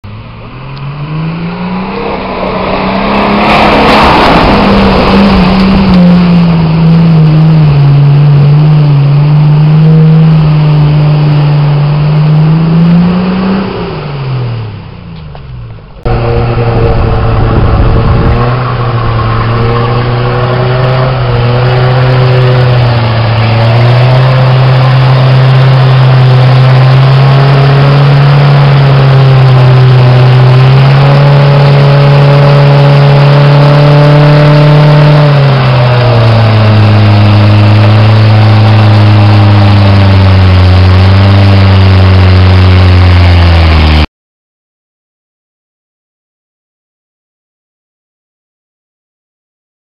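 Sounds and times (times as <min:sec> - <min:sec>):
lower engine running with small revs: 0:00.0 - 0:44.1
off-road engine revving: 0:00.0 - 0:44.1.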